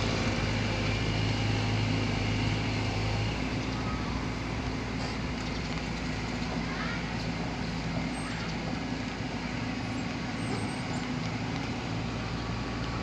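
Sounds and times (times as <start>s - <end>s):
road traffic: 0.0s - 13.0s
vehicle engine running: 0.0s - 13.0s.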